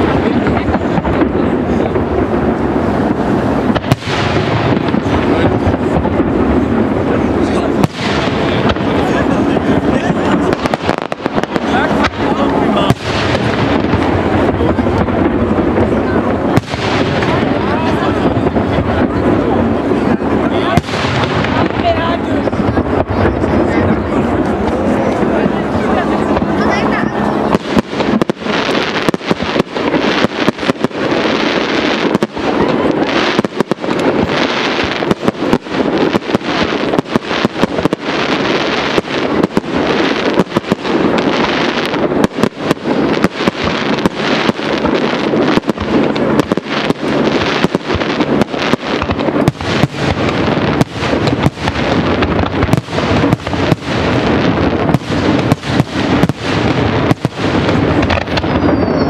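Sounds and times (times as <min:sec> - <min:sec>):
continuous noisy rumble: 0:00.0 - 0:59.0
fireworks bursting: 0:00.0 - 0:59.0.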